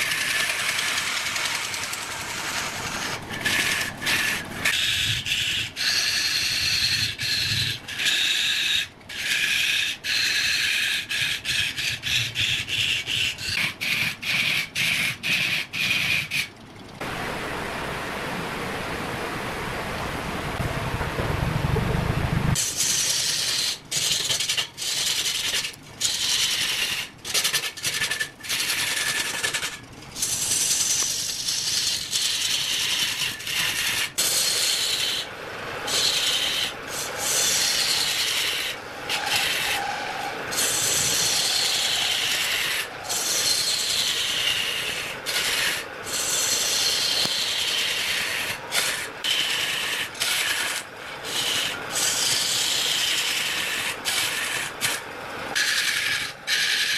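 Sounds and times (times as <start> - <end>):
lathe tool shaving wood: 0.0 - 15.1, 22.6 - 56.9.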